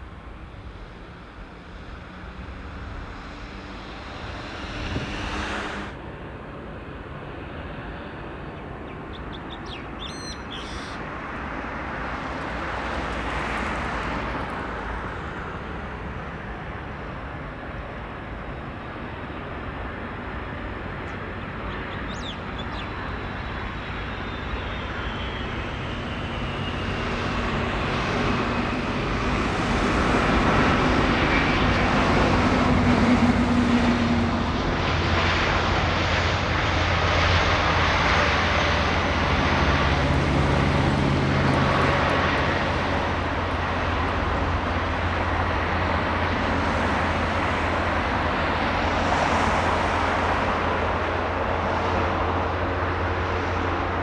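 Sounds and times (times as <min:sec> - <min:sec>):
jet airliner engines passing: 0:00.0 - 0:54.0.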